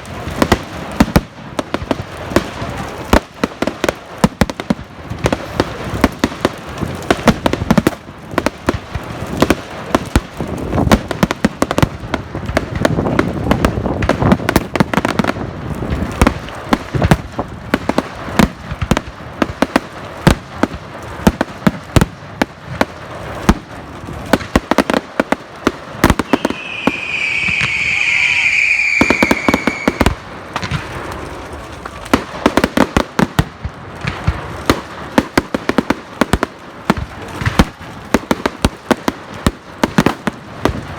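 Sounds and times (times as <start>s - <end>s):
fireworks barrage: 0.0s - 40.9s.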